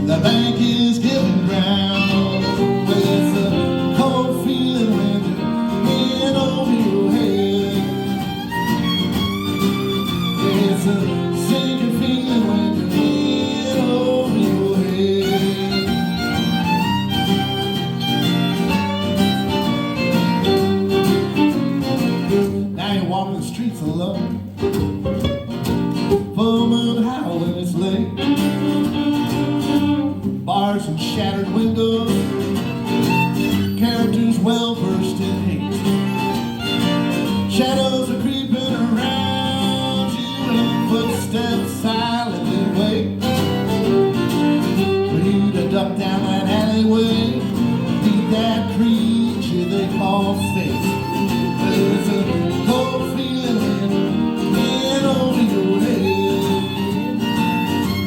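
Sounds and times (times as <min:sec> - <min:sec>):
acoustic guitar playing: 0:00.0 - 0:58.0
fiddle playing: 0:00.2 - 0:22.5, 0:24.6 - 0:26.4, 0:27.8 - 0:30.4, 0:31.5 - 0:58.0.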